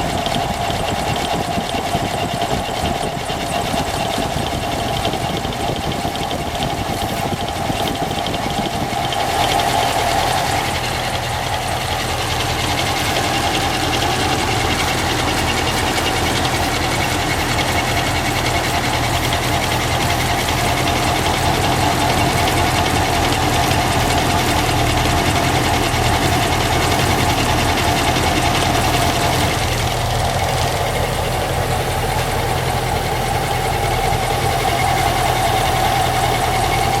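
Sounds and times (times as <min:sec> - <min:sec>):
engine running: 0:00.0 - 0:37.0
fast even ticking: 0:00.0 - 0:37.0.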